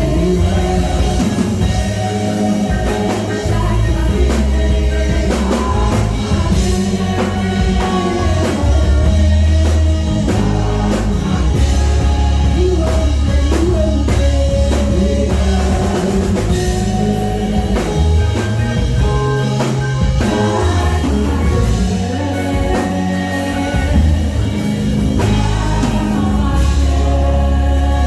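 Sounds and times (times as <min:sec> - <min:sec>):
deep bass notes: 0:00.0 - 0:28.0
drum kit beat: 0:00.0 - 0:28.0
live band playing: 0:00.0 - 0:28.0
person singing: 0:00.0 - 0:28.0.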